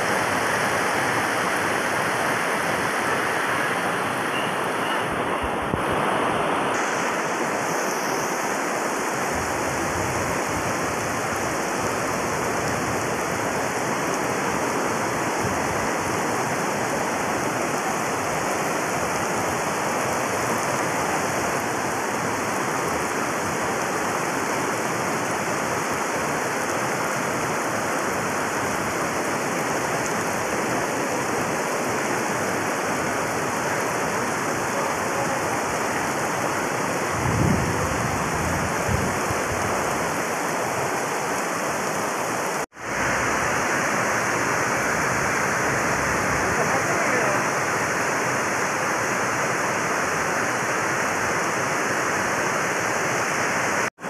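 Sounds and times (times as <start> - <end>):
heavy rain on road: 0.0 - 54.0.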